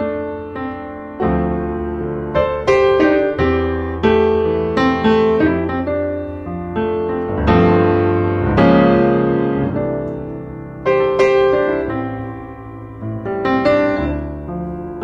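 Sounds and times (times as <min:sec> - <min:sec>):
classical piano music: 0:00.0 - 0:15.0.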